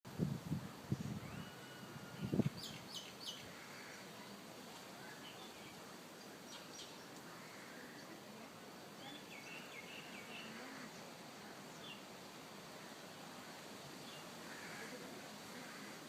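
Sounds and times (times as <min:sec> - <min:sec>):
faint outdoor background noise: 0:00.1 - 0:16.0.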